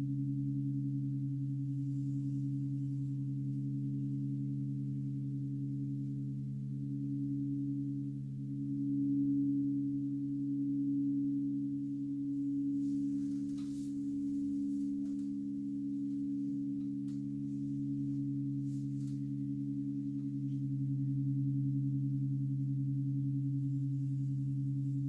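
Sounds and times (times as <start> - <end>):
crystal singing bowls ringing: 0.0 - 25.0.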